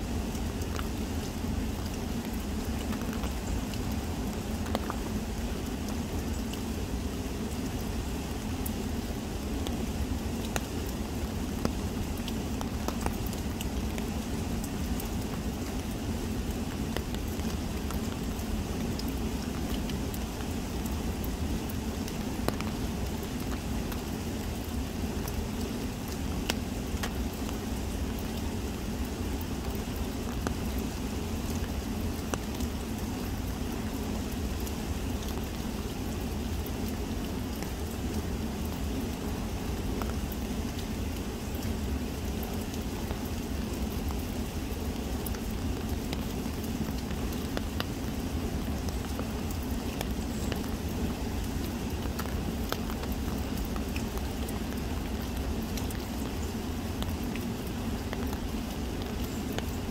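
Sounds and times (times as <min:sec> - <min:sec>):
light rain falling: 0:00.0 - 0:59.9
raindrops ticking: 0:00.1 - 0:59.9.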